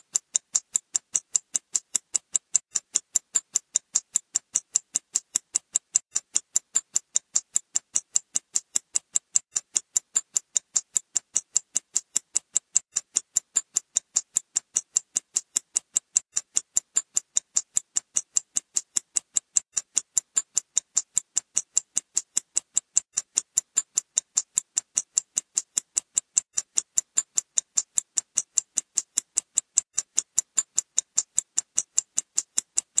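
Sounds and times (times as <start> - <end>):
clock ticking: 0.0 - 33.0.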